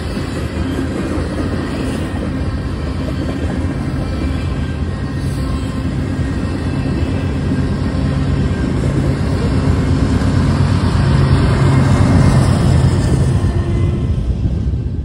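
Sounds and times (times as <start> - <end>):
diesel locomotive engine hum: 0.0 - 15.0
train wheel-on-rail noise: 0.0 - 15.0.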